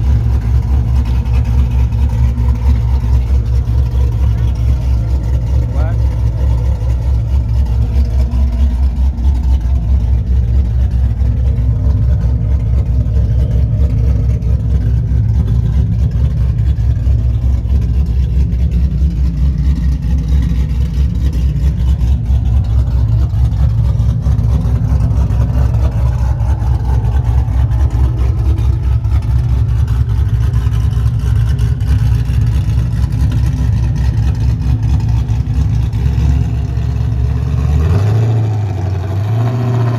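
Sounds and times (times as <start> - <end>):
car engine idling choppily: 0.0 - 39.9.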